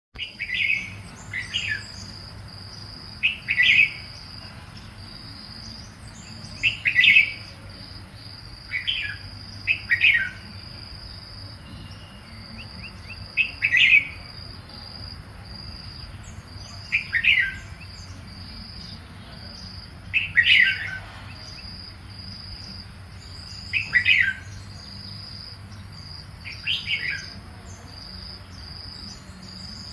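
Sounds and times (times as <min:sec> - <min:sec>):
high insect trill: 0:00.2 - 0:29.9.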